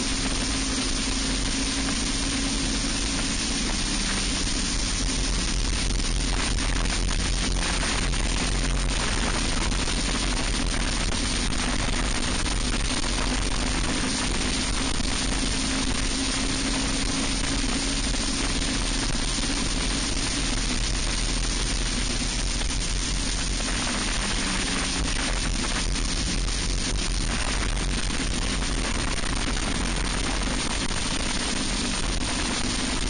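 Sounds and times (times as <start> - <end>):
wind rush on microphone: 0.0 - 33.0.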